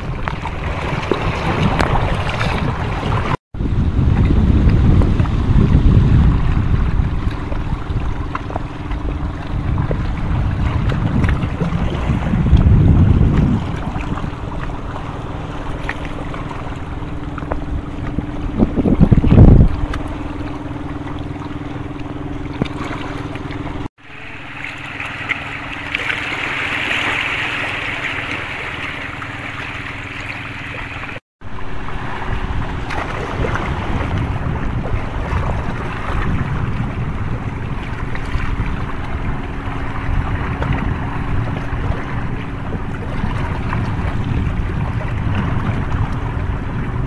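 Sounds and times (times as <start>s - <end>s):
sea waves on rocks: 0.0s - 47.0s
wind buffeting microphone: 0.0s - 47.0s.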